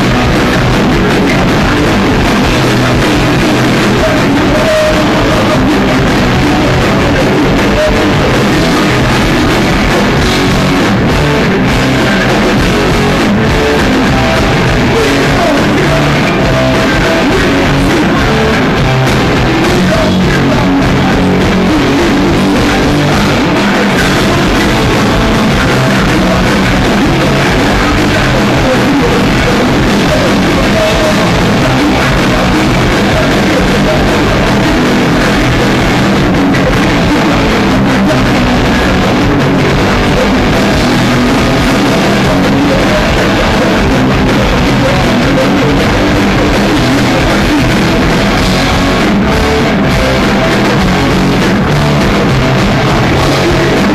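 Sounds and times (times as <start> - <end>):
distorted electric guitars: 0.0 - 53.9
drum kit: 0.0 - 53.9.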